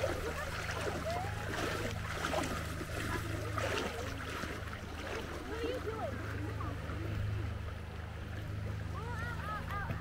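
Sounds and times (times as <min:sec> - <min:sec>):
low hum: 0:00.0 - 0:10.0
water sloshing around legs: 0:00.0 - 0:10.0.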